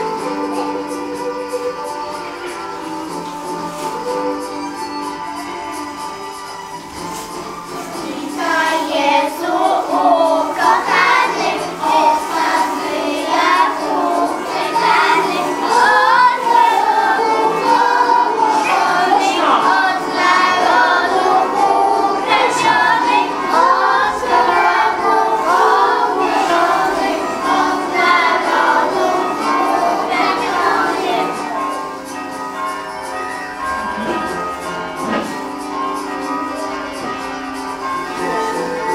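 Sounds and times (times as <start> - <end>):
children singing a carol: 0.0 - 4.7, 7.5 - 32.8, 33.8 - 38.9
musical accompaniment: 0.0 - 38.9.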